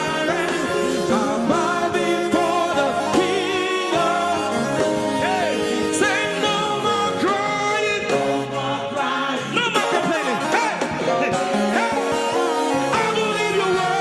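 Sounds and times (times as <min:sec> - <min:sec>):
person singing gospel song: 0:00.0 - 0:14.0
sustained instrumental backing: 0:00.0 - 0:14.0.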